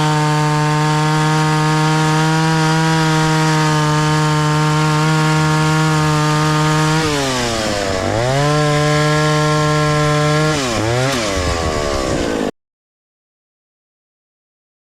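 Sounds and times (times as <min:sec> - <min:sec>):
chainsaw cutting wood: 0:00.0 - 0:12.6.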